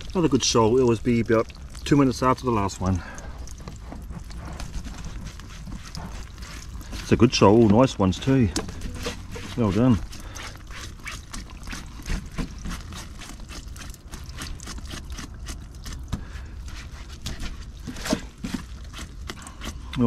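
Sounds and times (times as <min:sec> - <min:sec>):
water trickling: 0:00.0 - 0:20.0.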